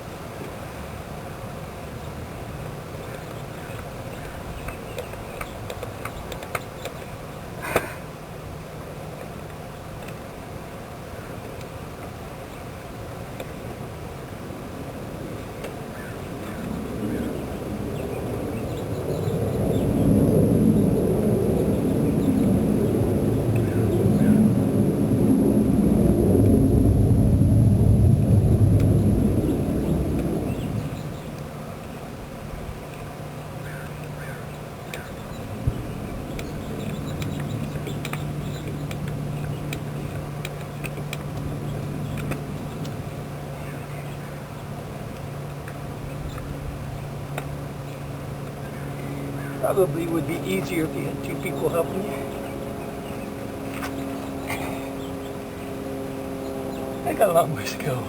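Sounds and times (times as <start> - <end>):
distant jet aircraft rumble: 0.0 - 58.0
steady low hum: 0.0 - 58.0.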